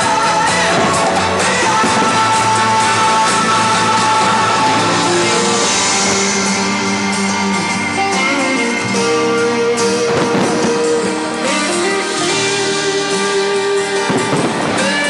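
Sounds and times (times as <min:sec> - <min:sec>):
instrumental pop music with guitar: 0:00.0 - 0:15.0.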